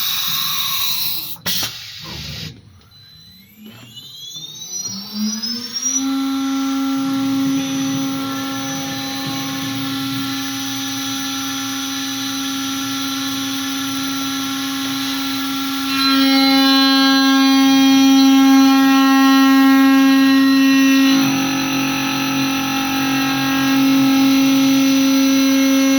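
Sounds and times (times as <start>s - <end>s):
router spindle high whine: 2.1s - 25.9s.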